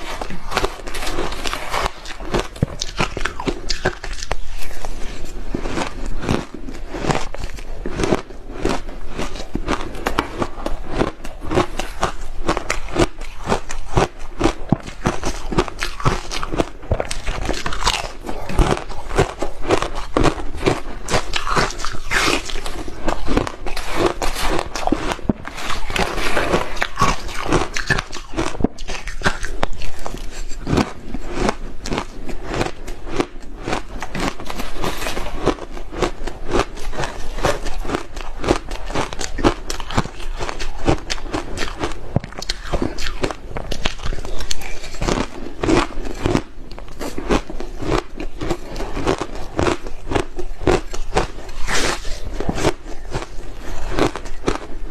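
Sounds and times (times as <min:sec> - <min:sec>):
person chewing ice crunching: 0:00.0 - 0:54.9.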